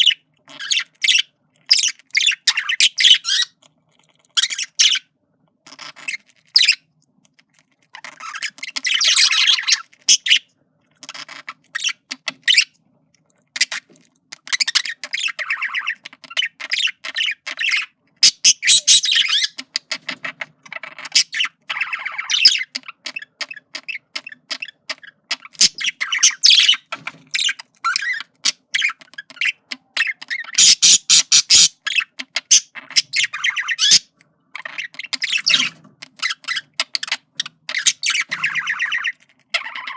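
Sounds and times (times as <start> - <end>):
budgerigar chattering and warbling: 0.0 - 3.6, 4.2 - 5.1, 8.0 - 12.7, 13.6 - 39.9.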